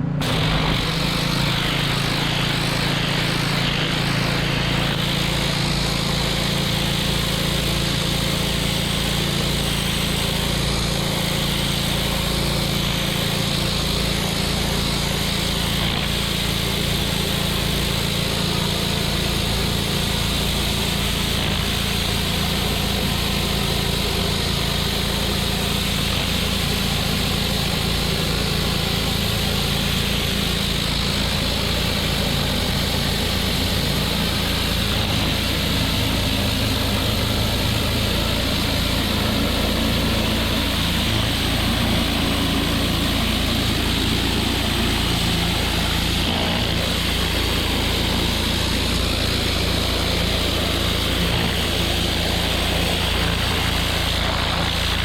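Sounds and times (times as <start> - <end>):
high-pressure water jet hissing: 0.0 - 55.0
small engine hum: 0.0 - 55.0.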